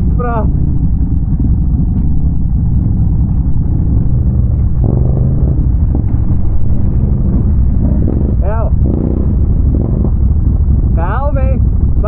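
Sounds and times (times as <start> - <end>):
atv engine rumbling: 0.0 - 12.0.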